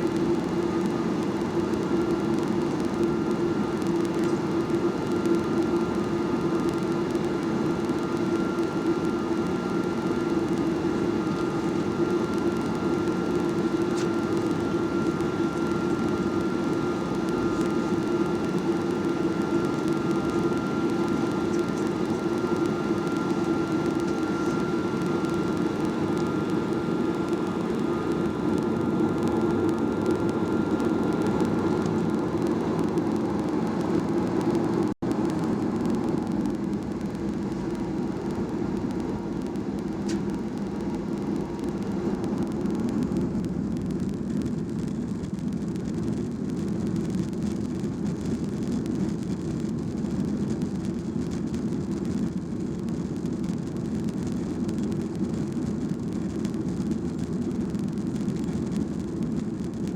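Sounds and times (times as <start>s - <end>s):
jet engines cabin hum: 0.0s - 59.9s.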